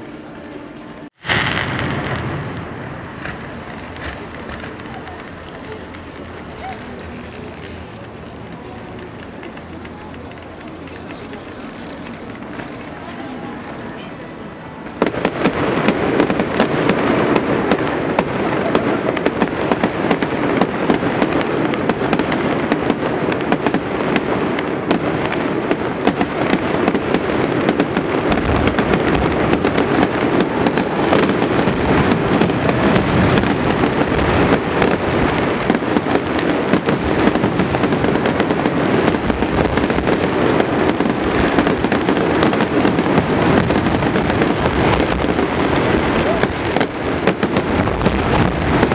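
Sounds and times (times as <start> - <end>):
firework bursts and crackling: 0.0 - 48.9
deep firework booms: 1.2 - 7.6, 15.0 - 48.9.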